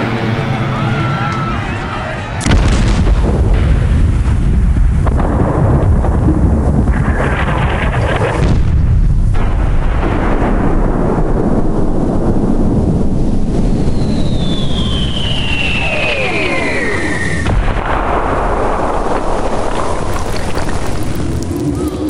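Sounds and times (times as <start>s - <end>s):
missile roar with crackle: 2.3s - 22.0s.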